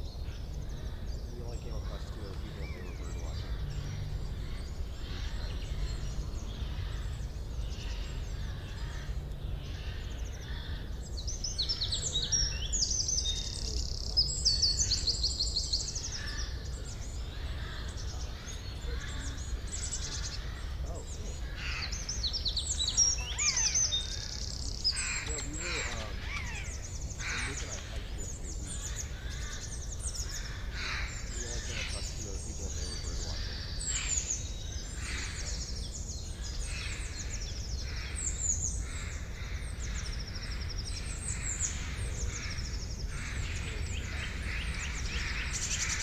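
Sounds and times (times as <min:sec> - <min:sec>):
songbirds chirping rapidly: 0:00.0 - 0:46.0.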